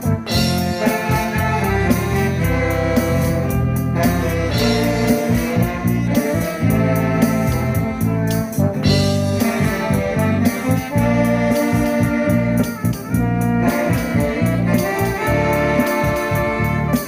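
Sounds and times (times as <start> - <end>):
steady drum beat: 0.0 - 17.0
sustained instrumental chords: 0.0 - 17.0.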